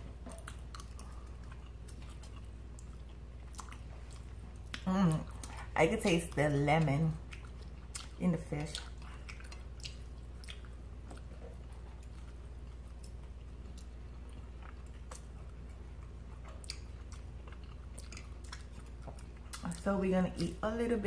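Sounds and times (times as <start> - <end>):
chewing and mouth smacks: 0.0 - 20.6
steady low hum: 0.0 - 21.0.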